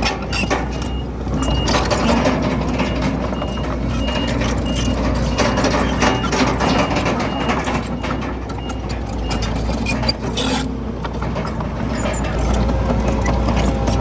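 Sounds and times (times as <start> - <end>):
diesel machinery engine drone: 0.0 - 14.0
metallic clanks and rattles: 0.0 - 14.0.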